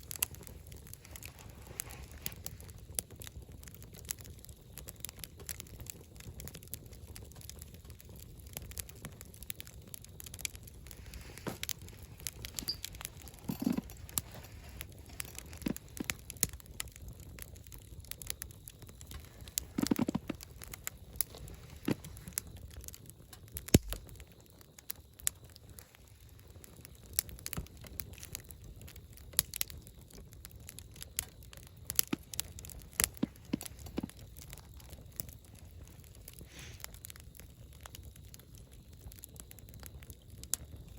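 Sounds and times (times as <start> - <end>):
campfire crackling: 0.0 - 40.9
low rumble of flame: 0.0 - 40.9.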